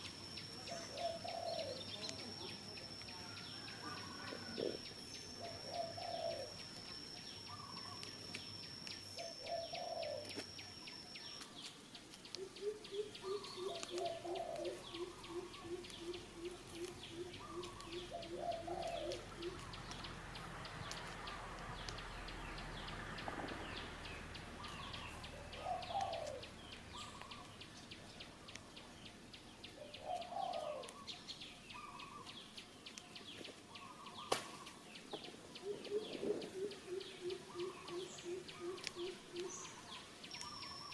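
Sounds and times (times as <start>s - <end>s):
dove-like cooing call: 0.0s - 2.6s, 3.2s - 8.3s, 9.0s - 10.6s, 12.3s - 27.6s, 29.8s - 32.5s, 33.7s - 40.9s
thin steady high tone: 0.0s - 33.2s
high bird chirps: 0.0s - 40.9s.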